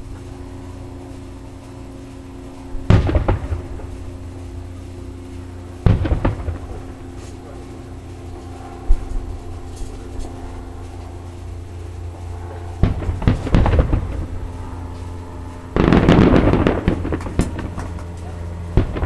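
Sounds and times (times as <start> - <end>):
fireworks booming: 0.0 - 19.0
fireworks crackling: 0.0 - 19.0.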